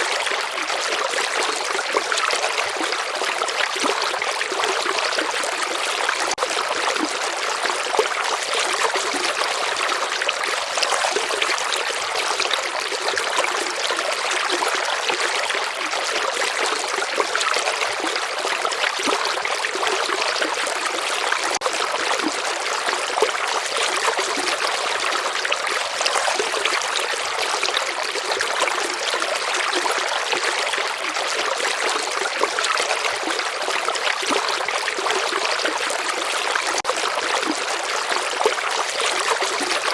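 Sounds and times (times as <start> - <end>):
shallow stream trickling: 0.0 - 39.9.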